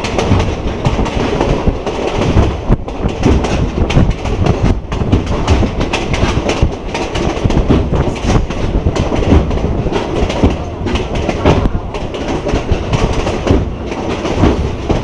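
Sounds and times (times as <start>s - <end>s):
train carriage rumbling and rattling: 0.0s - 15.0s
wheels clicking over track: 0.0s - 15.0s.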